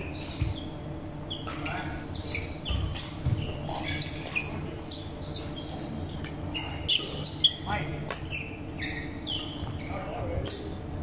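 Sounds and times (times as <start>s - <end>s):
sports shoes squeaking on wood: 0.1s - 5.8s, 6.5s - 10.0s.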